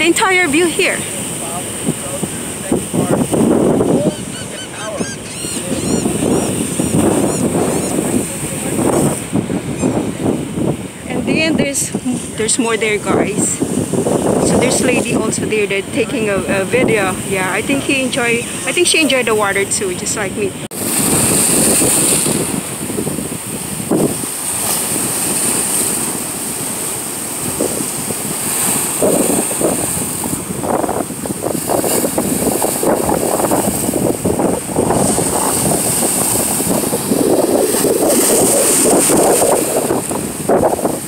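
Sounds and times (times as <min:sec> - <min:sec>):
ocean waves breaking on boulders: 0:00.0 - 0:41.0
wind buffeting microphone: 0:00.0 - 0:41.0.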